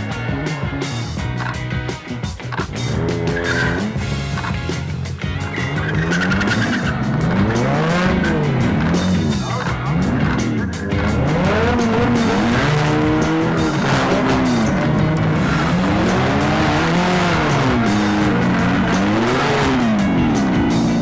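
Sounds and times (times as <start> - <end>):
car engines revving: 0.0 - 21.0
music: 0.0 - 21.0.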